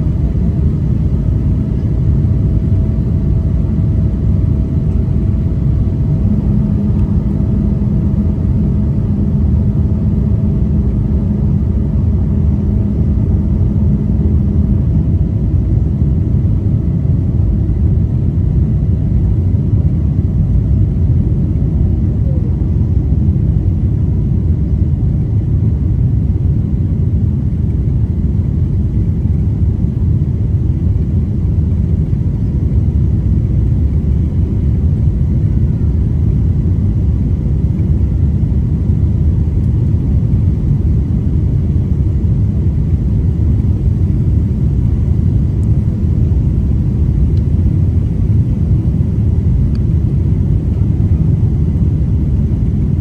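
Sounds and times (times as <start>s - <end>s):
jet engine rumble: 0.0s - 53.0s.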